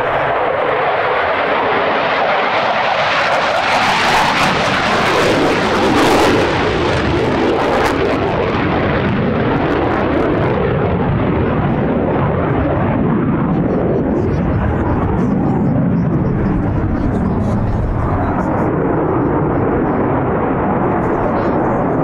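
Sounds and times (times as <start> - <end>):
fighter jet afterburner roar: 0.0 - 22.0.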